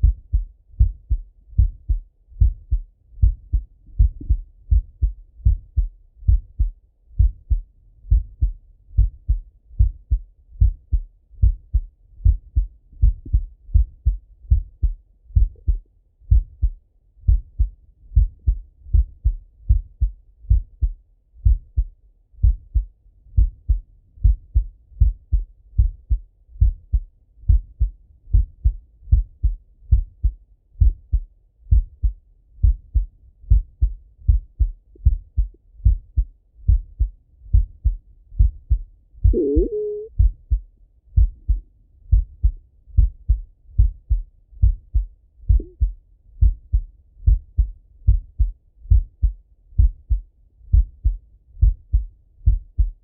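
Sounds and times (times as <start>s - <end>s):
heartbeat thumps: 0.0s - 40.6s, 41.2s - 53.0s.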